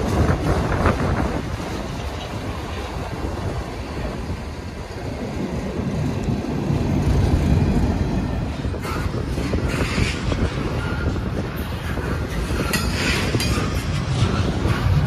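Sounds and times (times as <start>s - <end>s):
freight train wheels rumbling on rails: 0.0s - 15.0s
train clatter: 0.0s - 15.0s.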